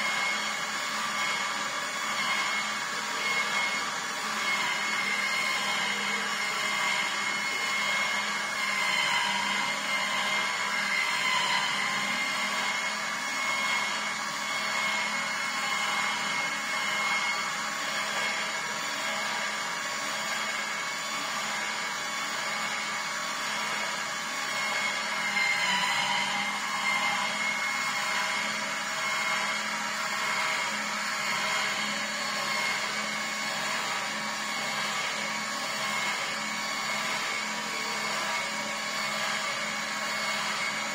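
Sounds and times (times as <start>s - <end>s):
juicer motor hum: 0.0s - 40.9s.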